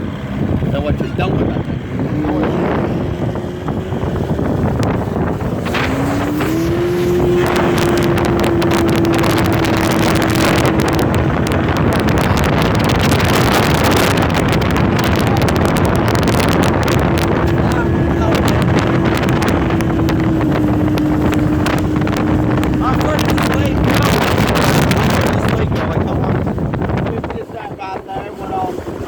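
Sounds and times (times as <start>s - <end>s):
motorboat engine: 0.0s - 29.0s
wind buffeting microphone: 0.0s - 29.0s.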